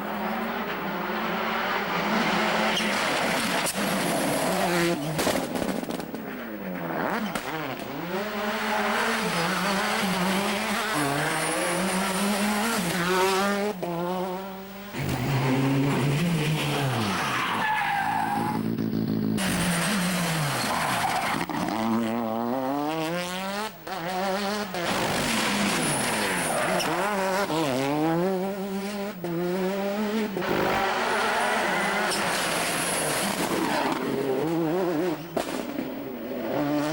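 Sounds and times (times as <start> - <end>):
rally car engine revving: 0.0 - 36.9.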